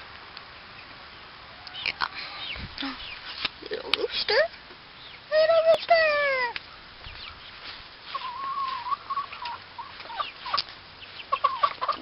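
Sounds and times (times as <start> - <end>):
chickens calling: 1.4 - 12.0.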